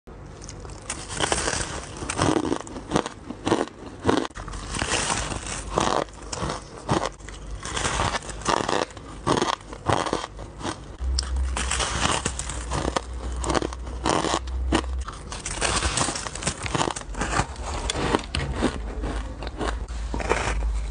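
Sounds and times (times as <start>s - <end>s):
biting and crunching ice: 0.3s - 20.9s.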